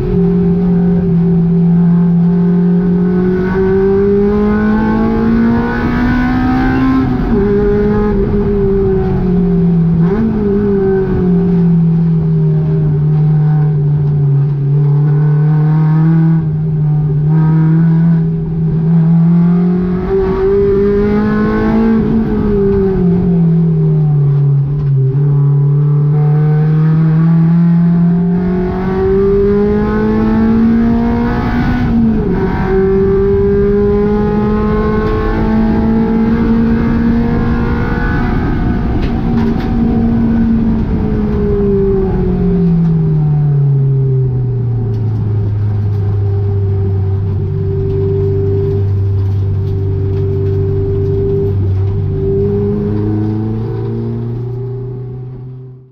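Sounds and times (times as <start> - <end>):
car engine running hard: 0.0 - 55.9
road and wind noise: 0.0 - 55.9.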